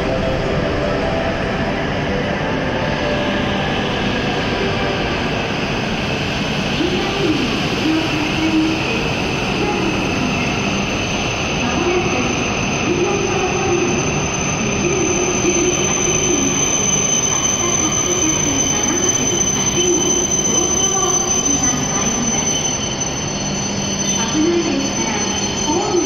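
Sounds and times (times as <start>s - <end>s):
train rumbling: 0.0s - 26.0s
train brakes squealing: 2.8s - 26.0s.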